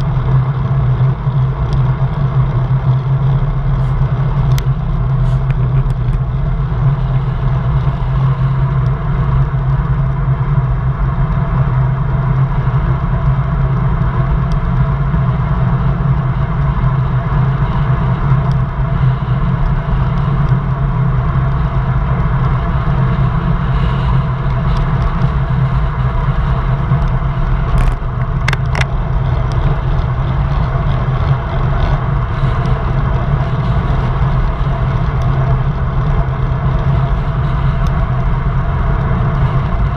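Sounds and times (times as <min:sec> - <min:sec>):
road noise: 0:00.0 - 0:39.9
wind rush on microphone: 0:00.0 - 0:39.9.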